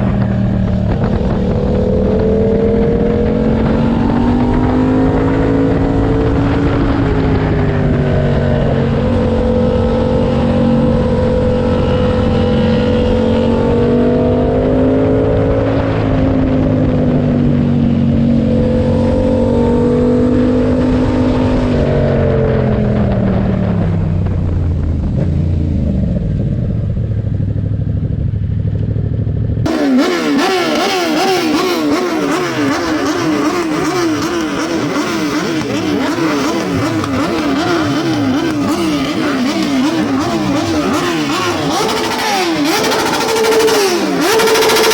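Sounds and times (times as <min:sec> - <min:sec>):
engine with wavering pitch: 0:00.0 - 0:44.9
motorcycle engine running: 0:00.0 - 0:44.9.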